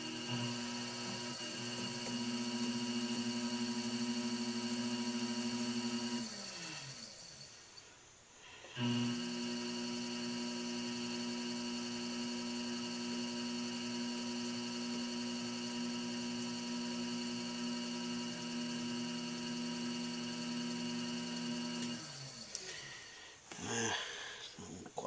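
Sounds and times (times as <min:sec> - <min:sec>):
potter's wheel motor hum: 0:00.0 - 0:07.6, 0:08.7 - 0:23.1.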